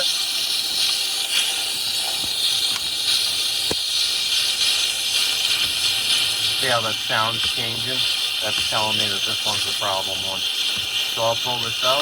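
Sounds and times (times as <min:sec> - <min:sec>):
compressed air hissing: 0:00.0 - 0:12.0
ratchet clicking: 0:00.0 - 0:12.0.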